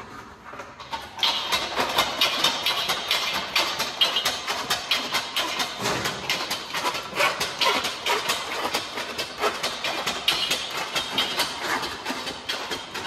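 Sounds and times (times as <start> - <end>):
sheet-metal shear clacking: 0.8 - 13.0.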